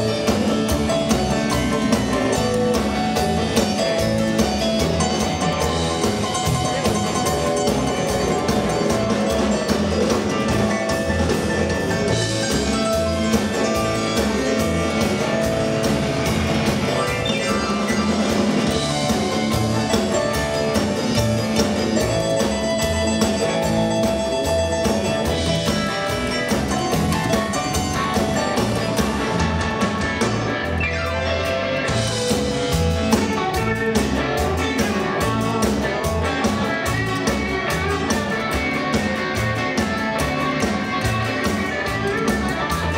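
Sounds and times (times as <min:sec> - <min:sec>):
live rock and roll band: 0:00.0 - 0:42.9.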